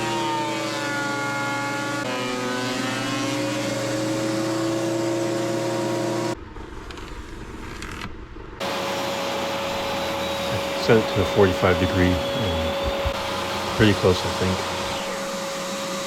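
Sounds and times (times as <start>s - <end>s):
power tool motor running: 0.0s - 6.4s, 8.6s - 16.0s.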